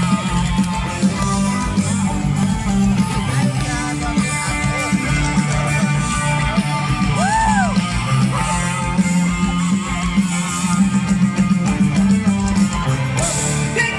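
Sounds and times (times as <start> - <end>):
live rock band playing: 0.0 - 13.9
strummed electric guitar: 0.0 - 13.9.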